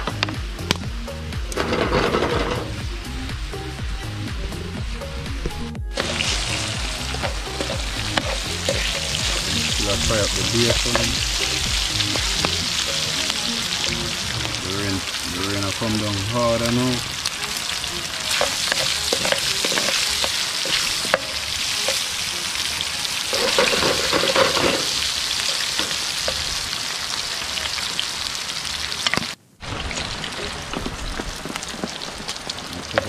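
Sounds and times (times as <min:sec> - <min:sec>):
bacon sizzling in a skillet: 0:06.0 - 0:33.0.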